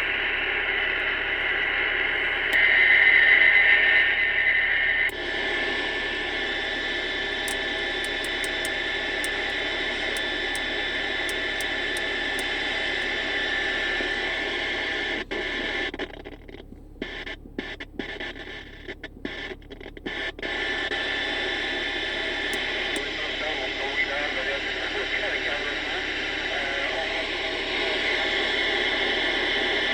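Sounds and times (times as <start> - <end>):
radio static hiss: 0.0 - 29.9.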